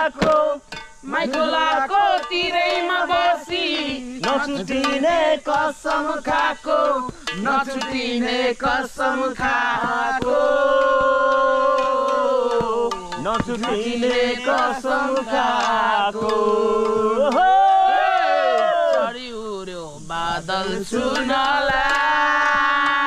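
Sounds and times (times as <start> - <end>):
person singing unaccompanied: 0.0 - 23.0.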